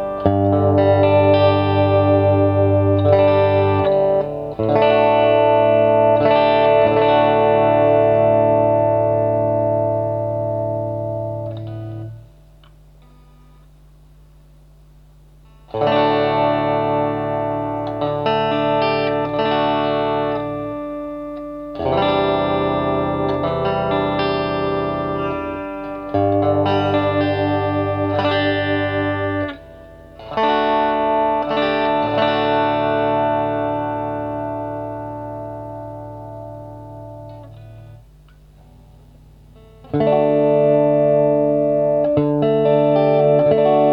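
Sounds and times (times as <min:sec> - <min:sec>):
electric guitar chords ringing: 0:00.0 - 0:13.7, 0:15.4 - 0:43.9.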